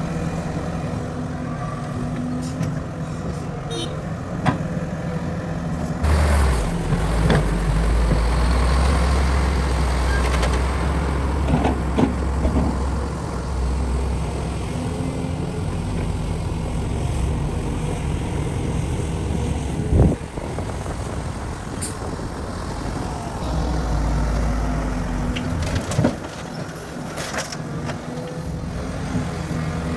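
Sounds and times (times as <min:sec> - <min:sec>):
diesel machinery engine drone: 0:00.0 - 0:29.9.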